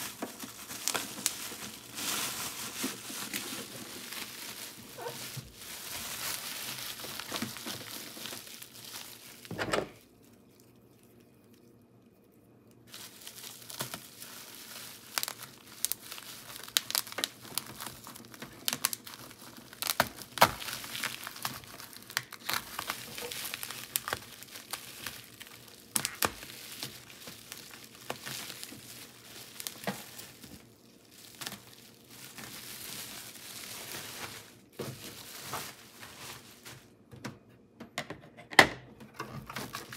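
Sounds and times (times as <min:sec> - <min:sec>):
plastic wrapping crinkling: 0:00.0 - 0:11.6, 0:12.8 - 0:37.1, 0:39.2 - 0:39.9.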